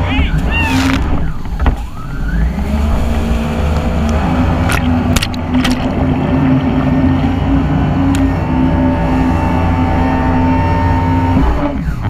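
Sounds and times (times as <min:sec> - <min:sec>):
jet ski engine running: 0:00.0 - 0:12.0
wind: 0:00.0 - 0:12.0.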